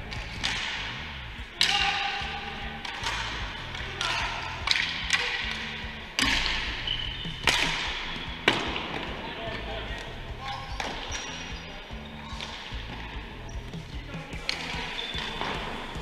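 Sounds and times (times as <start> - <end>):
faint background music: 0.0 - 16.0
voices: 1.4 - 16.0.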